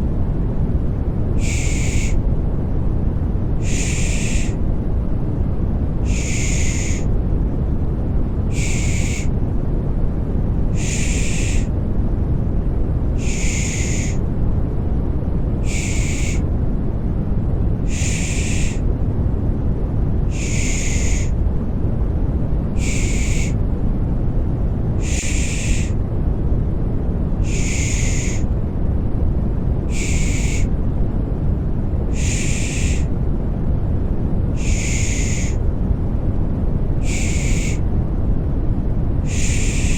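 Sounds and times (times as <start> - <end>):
low rumbling white noise: 0.0 - 39.9.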